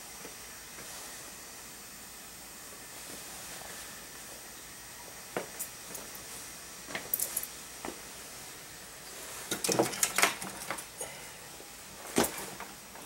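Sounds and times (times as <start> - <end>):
computer fans hissing: 0.0 - 13.0.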